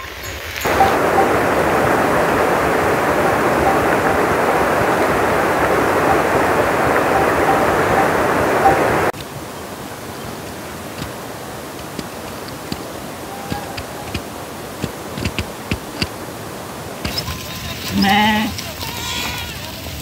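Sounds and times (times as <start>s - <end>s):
steady rushing noise: 0.0s - 18.1s.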